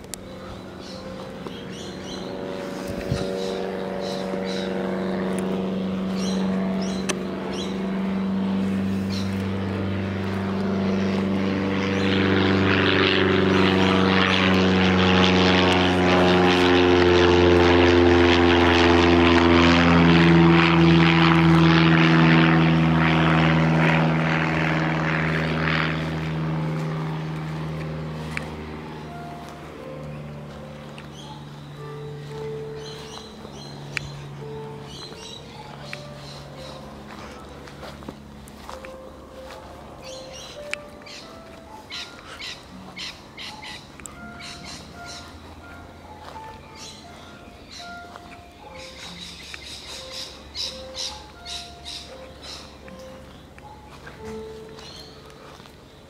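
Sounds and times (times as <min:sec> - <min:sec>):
propeller aeroplane engine drone: 0:00.0 - 0:56.0.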